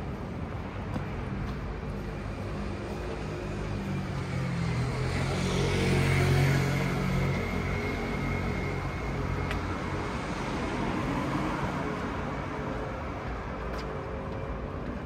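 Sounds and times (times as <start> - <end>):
steady road noise: 0.0 - 15.0.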